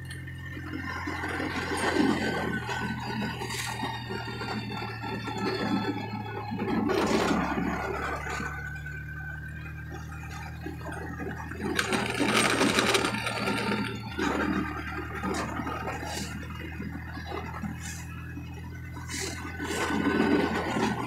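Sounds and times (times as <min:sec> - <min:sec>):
small vehicle engine running: 0:00.0 - 0:21.0.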